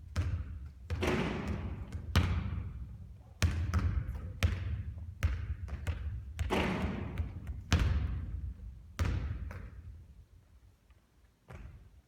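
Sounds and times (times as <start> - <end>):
basketball bouncing on court: 0.0 - 10.1, 11.5 - 11.9.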